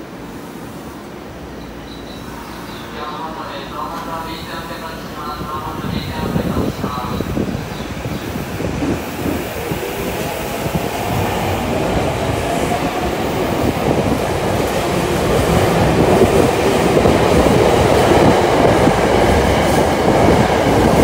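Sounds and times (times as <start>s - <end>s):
subway train pulling out: 0.0s - 21.0s.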